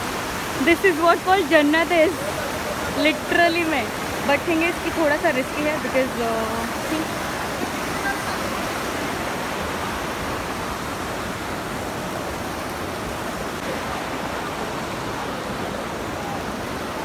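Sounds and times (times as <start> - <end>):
mountain stream rushing over boulders: 0.0 - 17.0.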